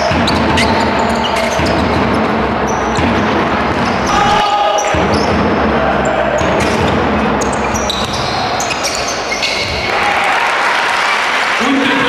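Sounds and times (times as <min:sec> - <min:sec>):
basketball bouncing on court: 0:00.0 - 0:10.0
sneakers squeaking: 0:00.0 - 0:10.0
crowd chatter: 0:00.0 - 0:12.0.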